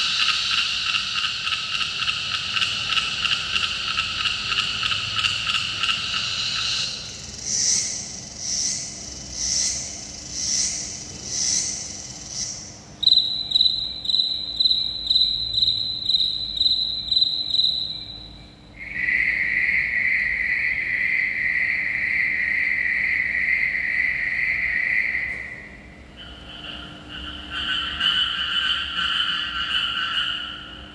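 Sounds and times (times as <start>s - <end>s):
cicada buzzing pulses: 0.0s - 30.9s
high cricket trill: 0.0s - 30.9s
low continuous trill: 0.0s - 30.9s.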